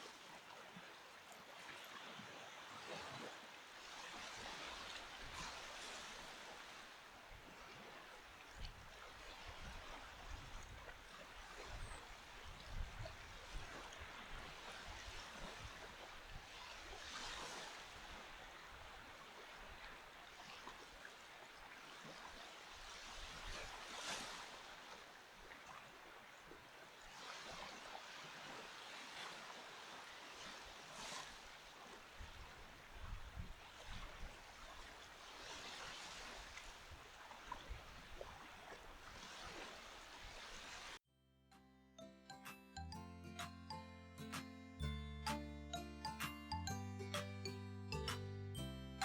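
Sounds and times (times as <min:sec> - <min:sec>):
small waves washing onto sand: 0:00.0 - 0:41.0.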